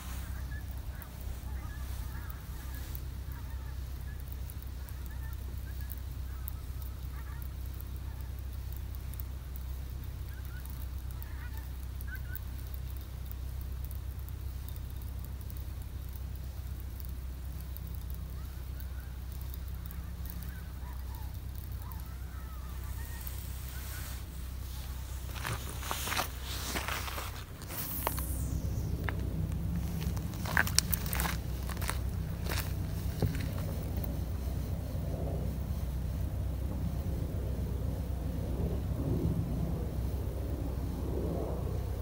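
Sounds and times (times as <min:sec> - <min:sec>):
distant geese honking: 0:00.0 - 0:42.0
steady low rumble: 0:00.0 - 0:42.0.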